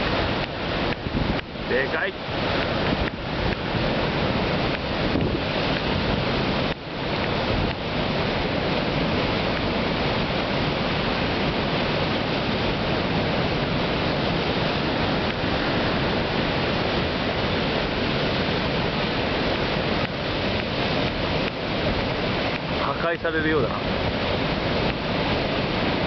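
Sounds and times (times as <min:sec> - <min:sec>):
heavy surf breaking: 0:00.0 - 0:26.0.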